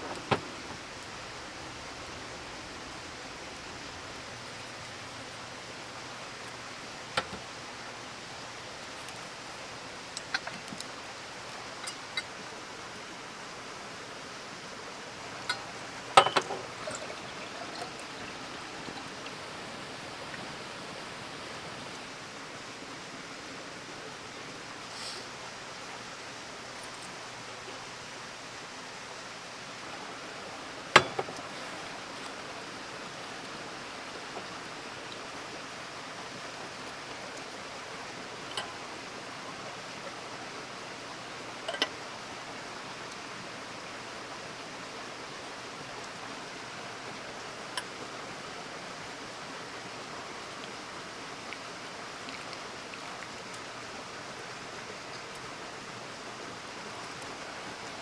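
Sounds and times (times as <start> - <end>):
campfire hissing: 0.0 - 58.0.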